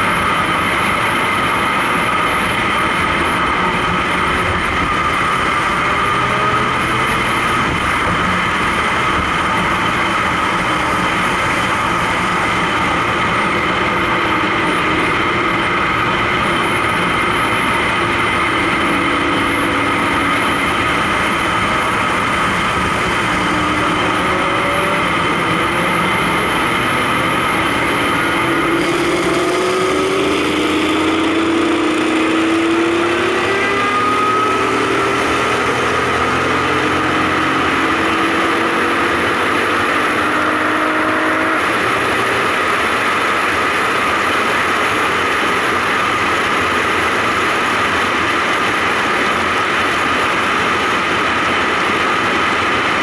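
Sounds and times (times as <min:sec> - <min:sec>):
car cruising interior drone: 0:00.0 - 0:53.0.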